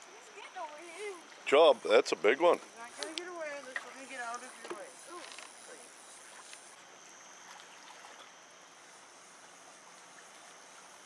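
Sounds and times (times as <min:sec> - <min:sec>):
flowing river water: 0:00.0 - 0:11.0.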